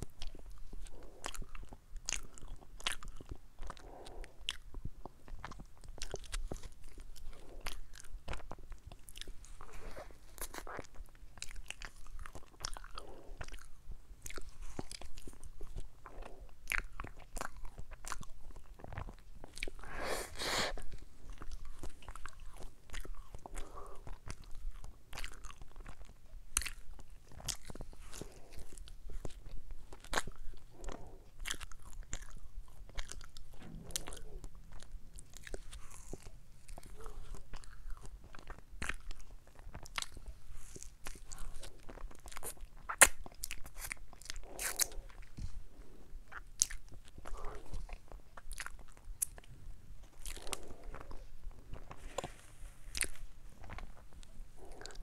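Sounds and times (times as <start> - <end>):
crunchy biting and chewing: 0.0 - 55.0
wet mouth sounds: 0.0 - 55.0.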